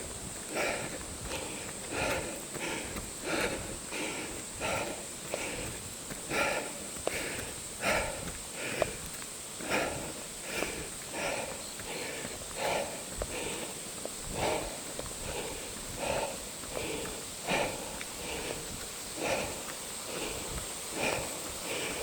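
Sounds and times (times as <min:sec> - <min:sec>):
heavy breathing: 0:00.0 - 0:22.0.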